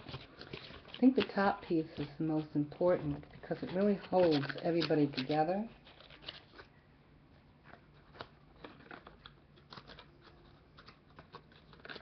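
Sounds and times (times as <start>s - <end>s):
paper clicks and rustles: 0.0s - 6.7s, 7.6s - 12.0s.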